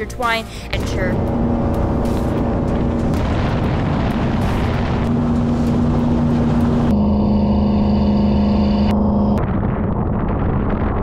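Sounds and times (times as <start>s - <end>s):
boat engine drone: 0.0s - 9.8s.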